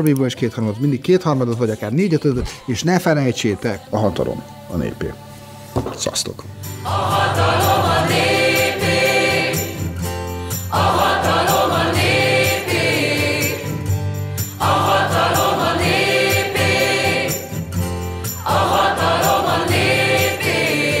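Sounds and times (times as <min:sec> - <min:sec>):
group of voices singing: 0:00.0 - 0:06.0, 0:06.6 - 0:21.0
steady musical backing: 0:00.0 - 0:21.0.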